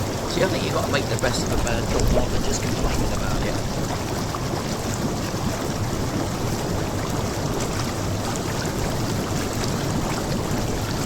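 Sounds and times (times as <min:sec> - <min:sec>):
water churning and bubbling: 0:00.0 - 0:11.0.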